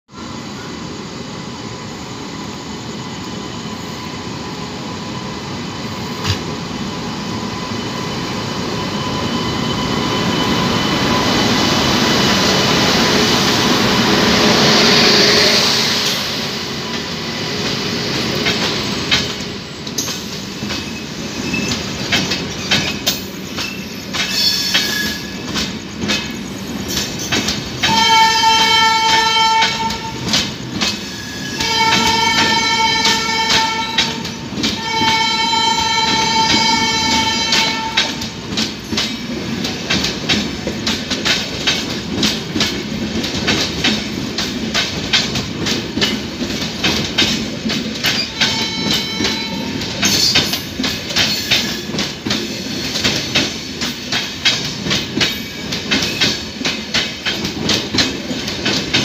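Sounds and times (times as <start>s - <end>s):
electric locomotive passing: 0.1s - 59.0s
train wheels clicking on rail joints: 7.3s - 59.0s.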